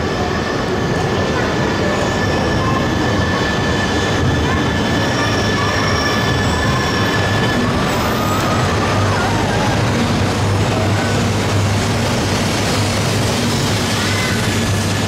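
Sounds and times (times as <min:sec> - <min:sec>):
train rushing rail noise: 0:00.0 - 0:15.0.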